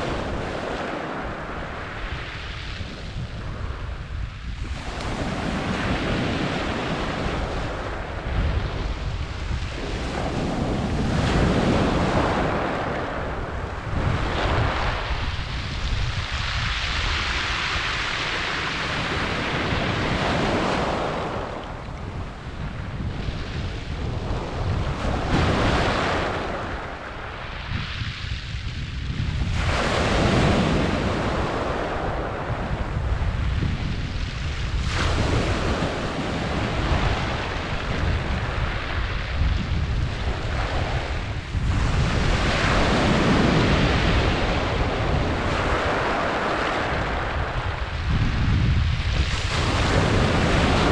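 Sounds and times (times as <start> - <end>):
waves breaking on pebble beach: 0.0 - 50.9.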